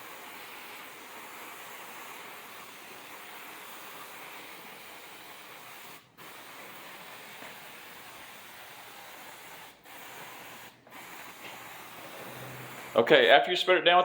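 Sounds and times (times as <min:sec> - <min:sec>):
spray hissing: 0:00.0 - 0:13.4.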